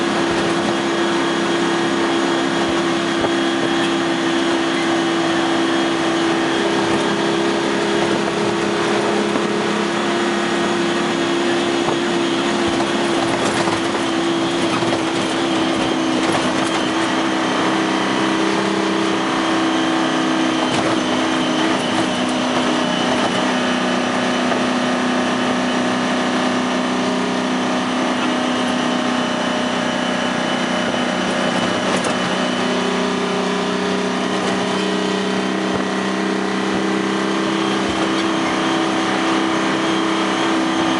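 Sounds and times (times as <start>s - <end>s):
diesel truck engine from inside cab: 0.0s - 40.9s
road noise: 0.0s - 40.9s.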